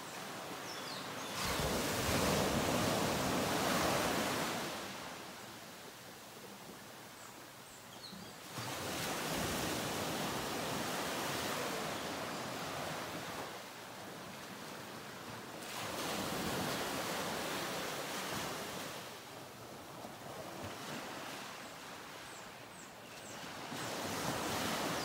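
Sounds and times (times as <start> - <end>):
ocean waves washing on beach: 0.0 - 7.6, 8.4 - 25.0.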